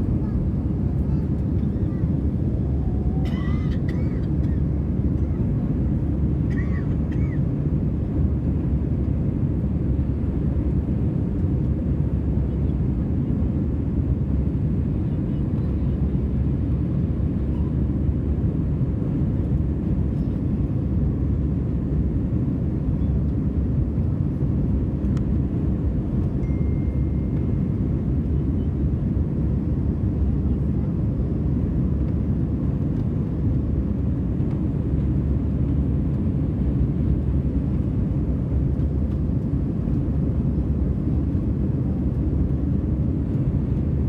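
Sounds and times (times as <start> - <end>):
airliner engine and airflow noise: 0.0 - 44.0.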